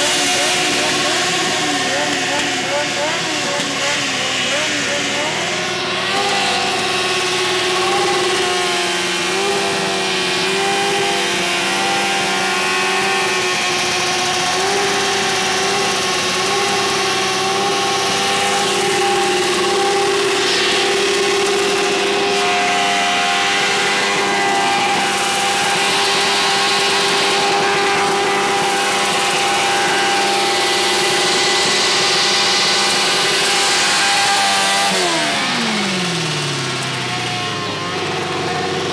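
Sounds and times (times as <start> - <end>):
motorcycle engine at steady revs: 0.0 - 38.9.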